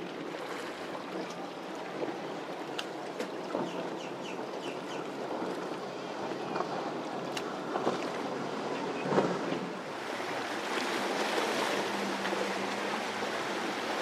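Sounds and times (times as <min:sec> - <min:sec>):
outboard engine drone: 0:00.0 - 0:14.0
spray and waves: 0:00.0 - 0:14.0
wind: 0:00.0 - 0:14.0.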